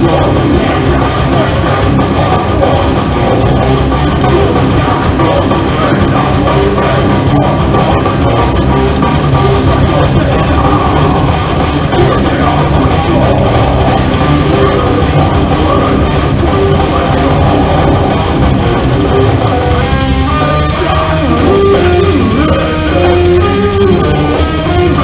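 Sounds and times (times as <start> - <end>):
distorted electric guitars: 0.0 - 25.0
drum kit: 0.0 - 25.0.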